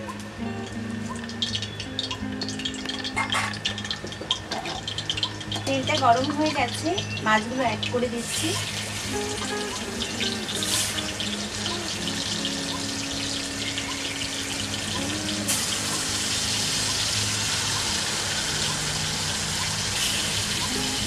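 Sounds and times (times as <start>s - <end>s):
background music with held notes: 0.0s - 21.0s
fish sizzling in hot oil: 0.4s - 21.0s.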